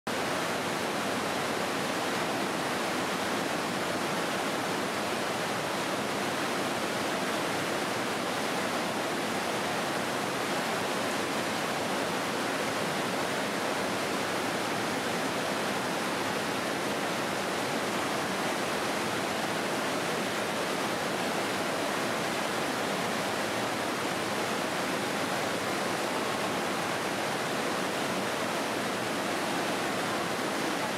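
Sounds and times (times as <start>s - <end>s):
stream rapids rushing: 0.1s - 30.9s.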